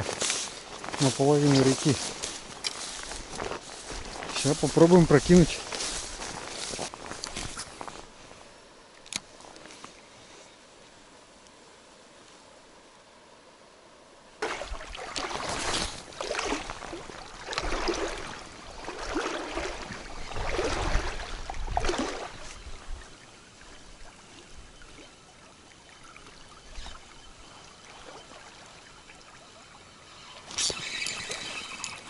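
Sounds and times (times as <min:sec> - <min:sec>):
river water splashing around legs: 0:00.0 - 0:08.1, 0:14.4 - 0:32.0.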